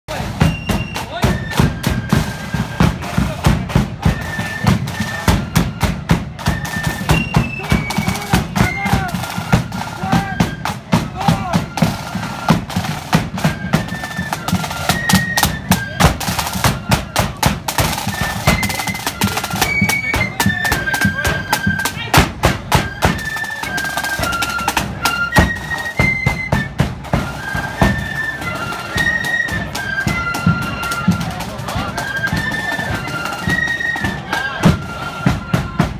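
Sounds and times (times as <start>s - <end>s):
flute melody: 0.1s - 35.9s
snare and bass drum beats: 0.1s - 35.9s.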